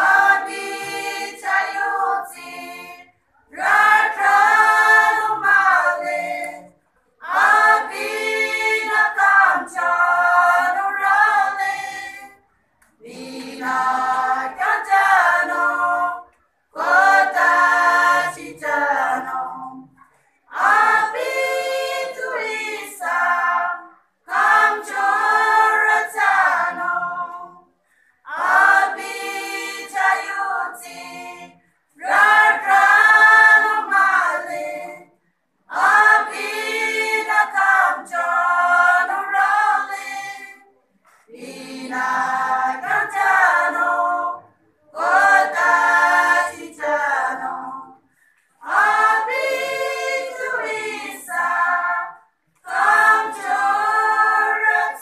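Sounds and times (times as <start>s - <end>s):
women singing a cappella: 0.0s - 55.0s.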